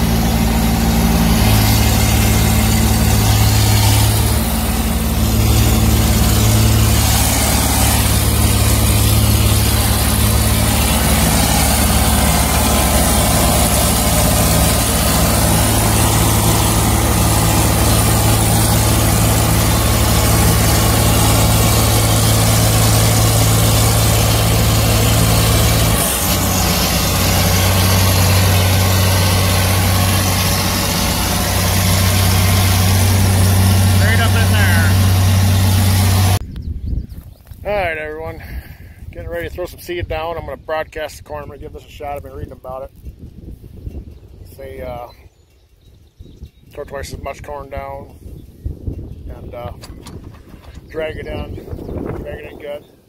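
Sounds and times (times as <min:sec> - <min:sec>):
tractor diesel engine running: 0:00.0 - 0:36.7, 0:37.6 - 0:53.0.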